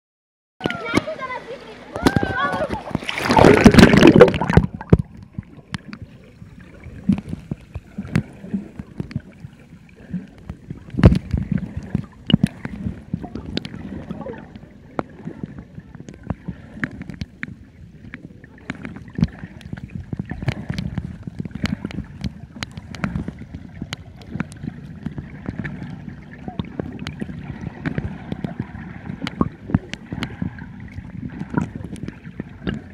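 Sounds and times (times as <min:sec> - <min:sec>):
muffled underwater churning: 0:00.6 - 0:32.9
underwater clicks and pops: 0:02.0 - 0:06.1, 0:07.0 - 0:09.4, 0:10.3 - 0:32.9.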